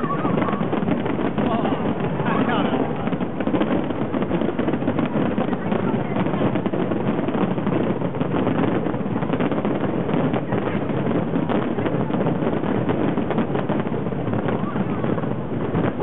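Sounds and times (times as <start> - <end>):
fireworks crackling and popping: 0.0 - 16.0
fireworks rumbling: 0.0 - 16.0.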